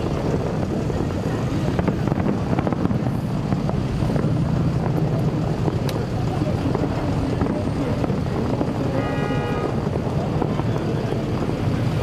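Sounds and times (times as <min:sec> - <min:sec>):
fireworks bursting and crackling: 0:00.0 - 0:12.0
low rumble: 0:00.0 - 0:12.0.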